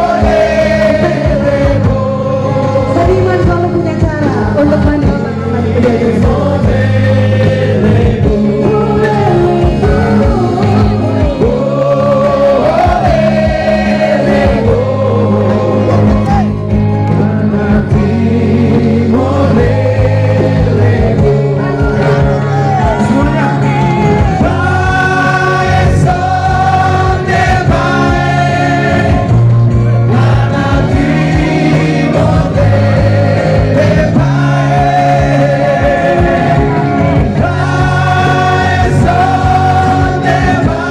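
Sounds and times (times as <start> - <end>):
band playing: 0.0 - 40.9
keyboard sustained chords: 0.0 - 40.9
men singing together: 0.0 - 40.9.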